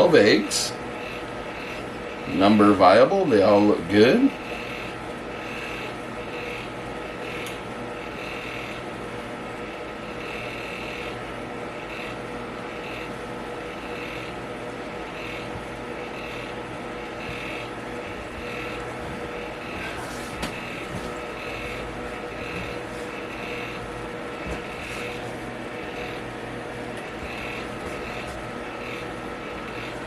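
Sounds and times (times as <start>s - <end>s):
electric fan humming: 0.0s - 30.0s.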